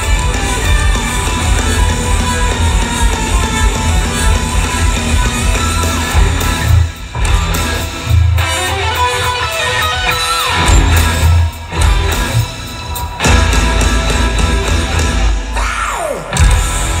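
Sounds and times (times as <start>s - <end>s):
electric guitar: 0.0s - 17.0s
heavy metal band with orchestra: 0.0s - 17.0s.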